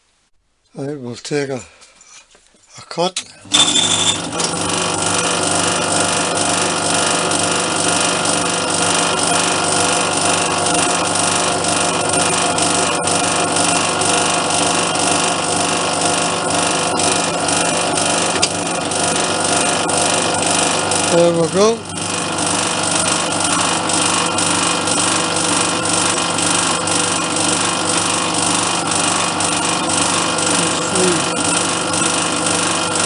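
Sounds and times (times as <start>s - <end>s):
lathe machine hum: 3.4s - 33.0s
metal lathe cutting: 3.4s - 33.0s.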